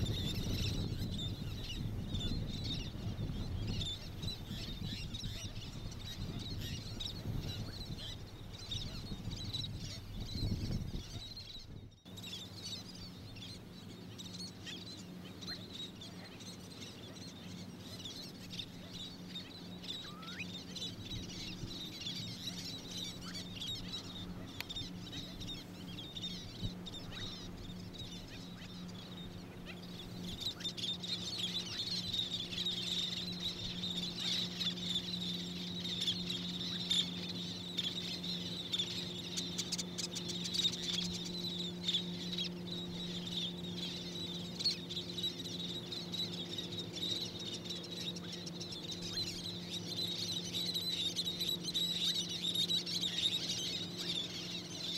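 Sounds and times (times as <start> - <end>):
small birds chirping: 0.0 - 54.9
steady low hum: 0.0 - 54.9.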